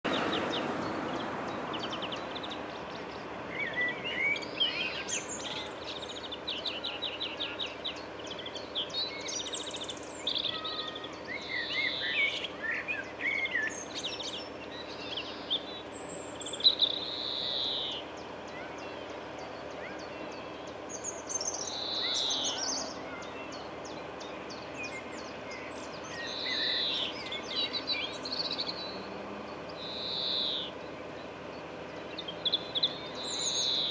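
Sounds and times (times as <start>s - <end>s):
wild birds singing and calling: 0.1s - 33.9s.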